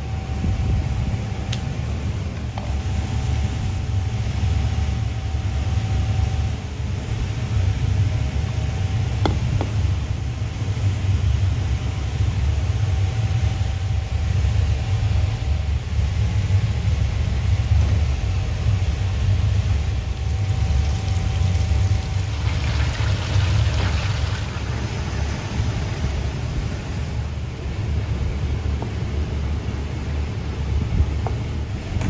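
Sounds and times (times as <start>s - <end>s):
faint steady hum: 0.0s - 32.0s
low machine rumble: 0.0s - 32.0s.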